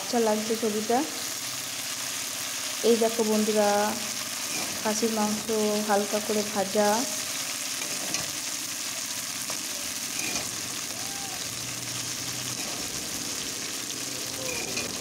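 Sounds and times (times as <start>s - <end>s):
meat sizzling in oil: 0.0s - 15.0s.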